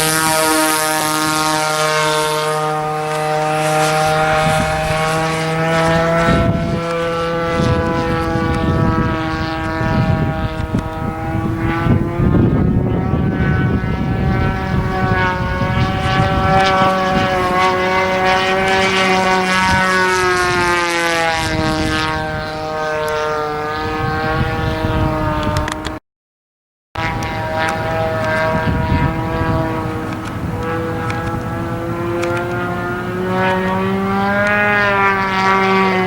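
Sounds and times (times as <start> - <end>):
model airplane engine running: 0.0 - 26.0, 27.0 - 36.0.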